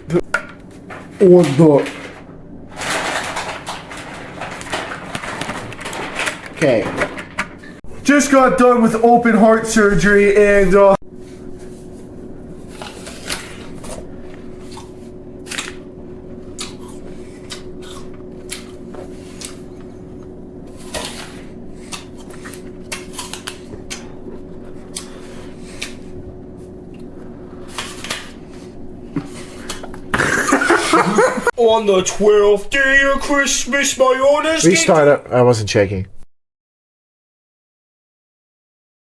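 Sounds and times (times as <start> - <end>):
steady hum: 0.0 - 35.6.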